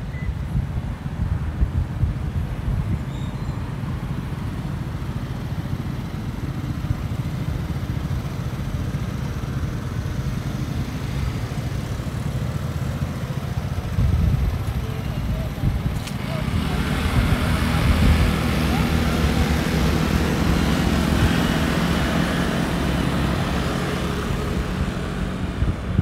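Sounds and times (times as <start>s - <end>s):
low rumble of vehicle noise: 0.0s - 26.0s.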